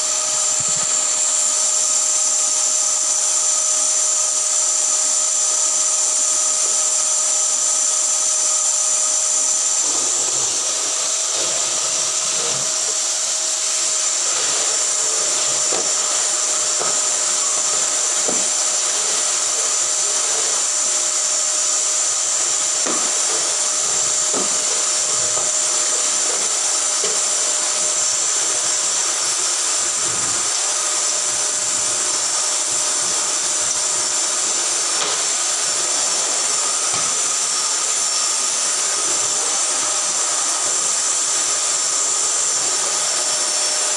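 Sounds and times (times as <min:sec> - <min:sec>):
vacuum cleaner whining: 0:00.0 - 0:43.9.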